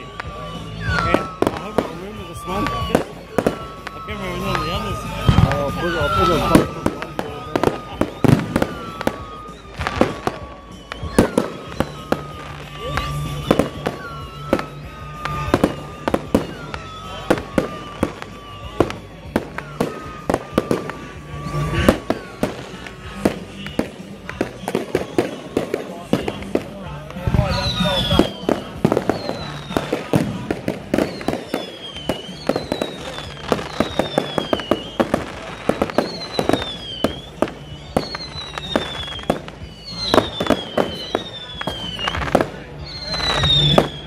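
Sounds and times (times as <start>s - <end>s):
faint descending whistle: 0.0s - 44.0s
fireworks bangs and crackles: 0.0s - 44.0s.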